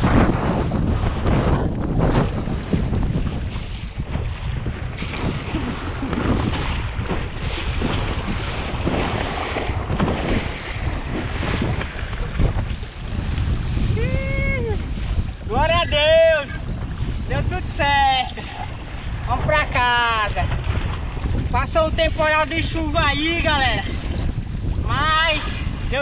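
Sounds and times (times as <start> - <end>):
boat hull splashing through waves: 0.0 - 26.0
wind buffeting microphone: 0.0 - 26.0.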